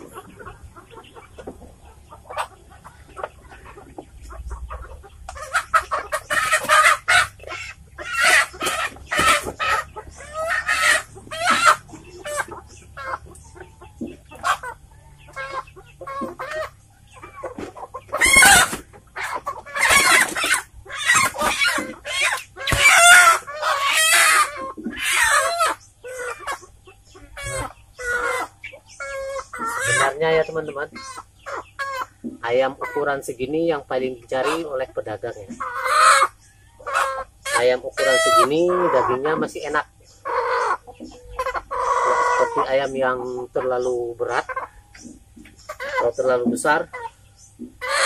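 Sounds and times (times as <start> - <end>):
chickens squawking: 0.0 - 48.0.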